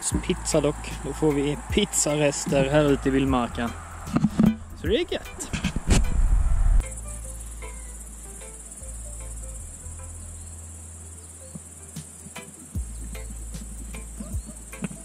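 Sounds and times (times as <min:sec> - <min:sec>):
steady low rumble: 0:00.0 - 0:11.1, 0:12.8 - 0:14.7
crickets chirping: 0:00.0 - 0:15.0.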